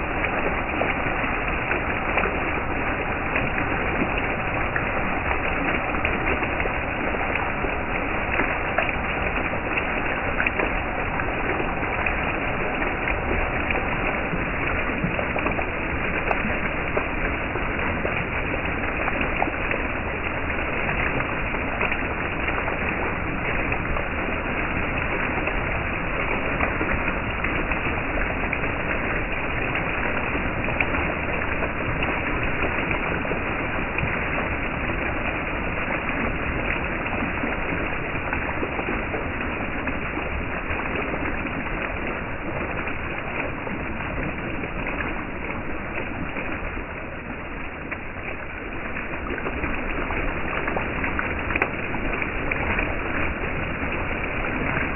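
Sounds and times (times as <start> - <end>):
fountain water splashing: 0.0 - 54.9.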